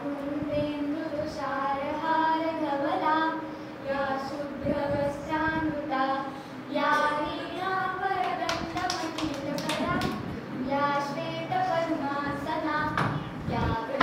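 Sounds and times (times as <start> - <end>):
children singing together: 0.8 - 14.0.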